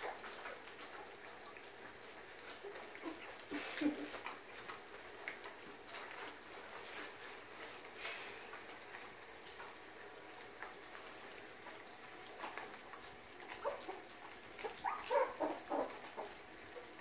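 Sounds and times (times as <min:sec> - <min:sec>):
puppies lapping food: 0:00.0 - 0:17.0.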